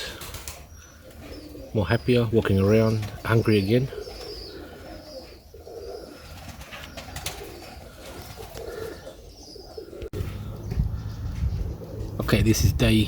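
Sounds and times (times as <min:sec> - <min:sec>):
pigeons cooing: 0:00.0 - 0:12.2.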